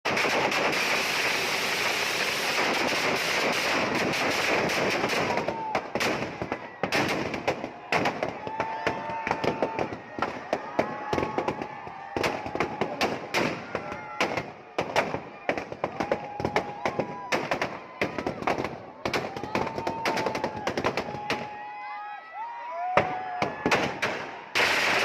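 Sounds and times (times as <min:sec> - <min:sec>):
firecrackers crackling and banging: 0:00.0 - 0:21.6, 0:23.0 - 0:25.0.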